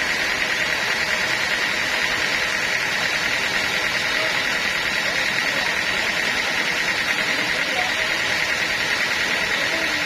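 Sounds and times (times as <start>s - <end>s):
continuous high-pitched tone: 0.0s - 10.0s
sawmill machinery running: 0.0s - 10.0s.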